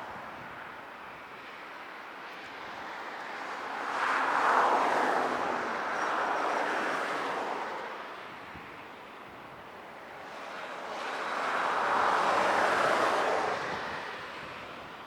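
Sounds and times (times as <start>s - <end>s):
jet airliner passing: 2.3s - 15.0s.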